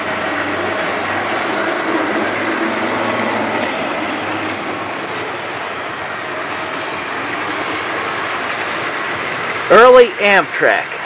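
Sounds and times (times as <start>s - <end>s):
low hum: 0.0s - 9.8s
model train rumbling on track: 0.0s - 11.0s.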